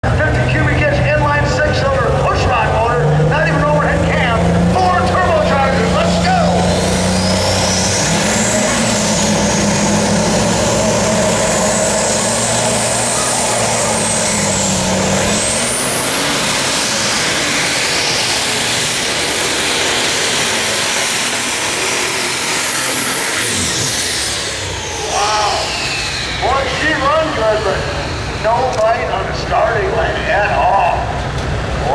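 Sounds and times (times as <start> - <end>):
high turbo whine: 0.0 - 31.9
tractor diesel engine at full power: 0.0 - 31.9.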